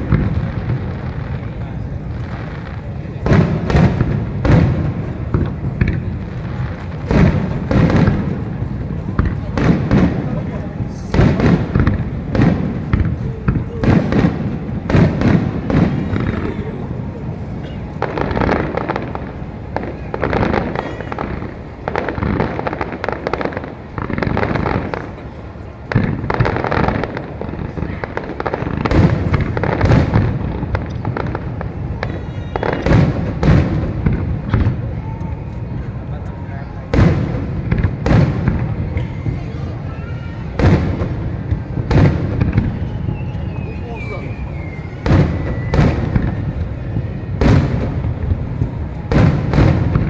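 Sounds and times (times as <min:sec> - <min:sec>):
firework bangs: 0:00.0 - 0:50.0
low rumble of explosions: 0:00.0 - 0:50.0
small firework pops: 0:00.0 - 0:50.0.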